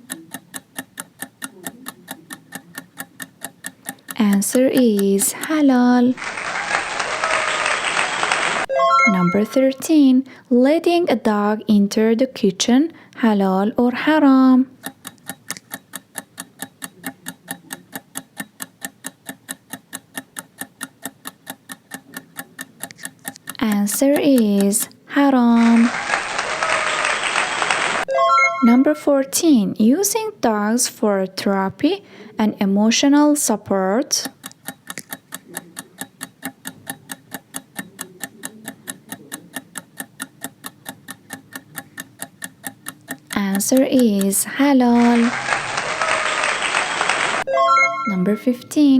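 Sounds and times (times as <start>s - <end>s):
clock ticking: 0.0s - 6.2s, 8.7s - 26.6s, 28.0s - 45.4s, 47.4s - 48.9s.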